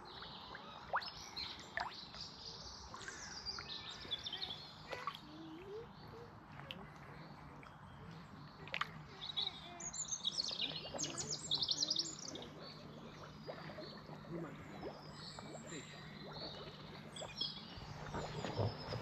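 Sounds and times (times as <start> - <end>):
faint outdoor background noise: 0.0 - 19.0.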